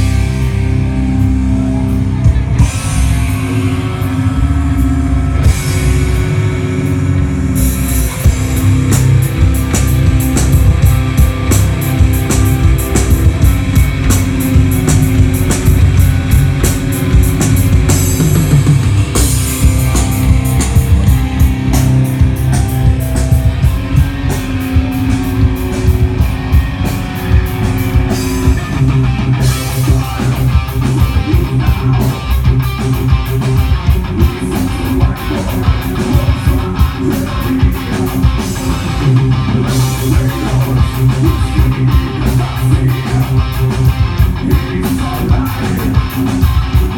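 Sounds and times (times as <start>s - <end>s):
distorted electric guitars: 0.0s - 46.9s
drum kit and cymbals: 0.0s - 46.9s.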